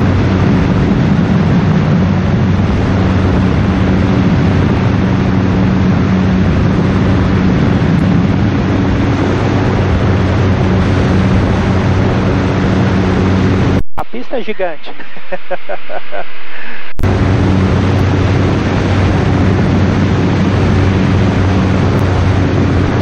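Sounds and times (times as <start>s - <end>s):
light aircraft engine drone: 0.0s - 23.0s
wind rush: 0.0s - 23.0s.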